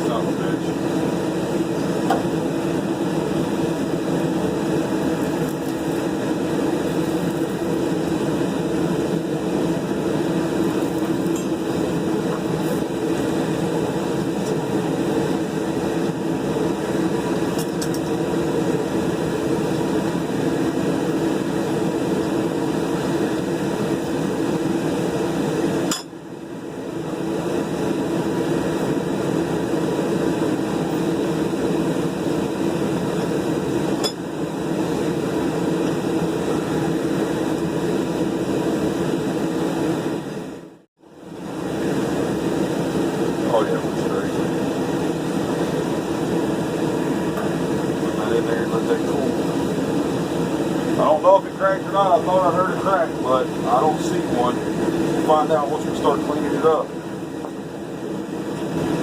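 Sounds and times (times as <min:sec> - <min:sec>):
whooshing roar of shop equipment: 0:00.0 - 0:59.0.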